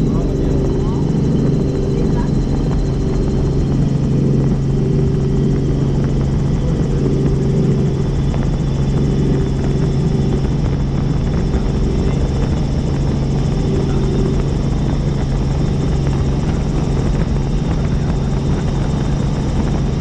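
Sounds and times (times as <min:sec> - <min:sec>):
helicopter drone and rotor beat: 0:00.0 - 0:20.0.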